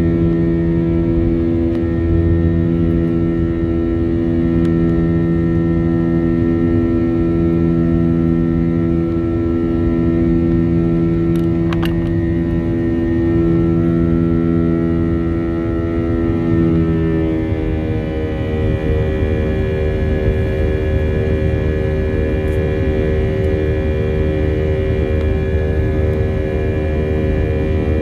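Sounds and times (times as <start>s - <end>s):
jet engines droning in cabin: 0.0s - 28.0s.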